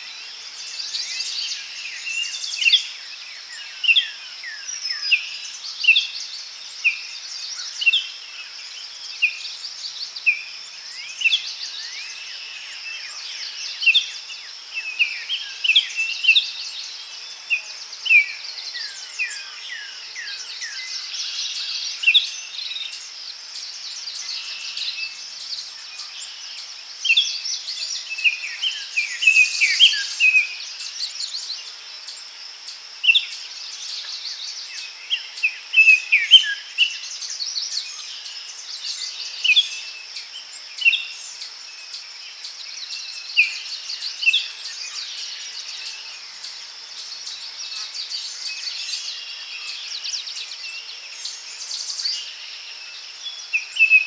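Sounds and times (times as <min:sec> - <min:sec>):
high insect trill: 0:00.0 - 0:54.0
songbirds chirping and whistling: 0:00.0 - 0:54.0.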